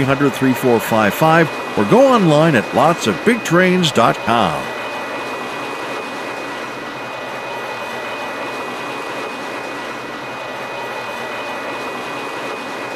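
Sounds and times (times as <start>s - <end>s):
train rushing noise: 0.0s - 12.9s.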